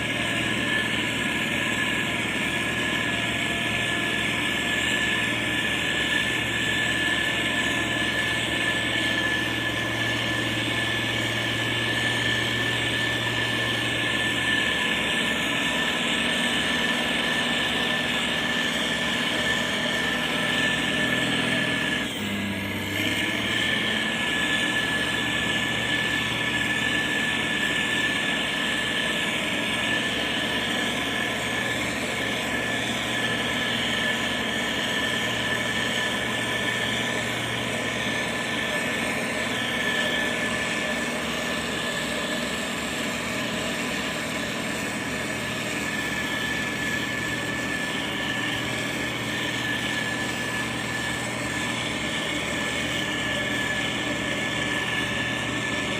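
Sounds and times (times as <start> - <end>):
heavy machine engines running: 0.0 - 55.9
high engine whine: 0.0 - 55.9.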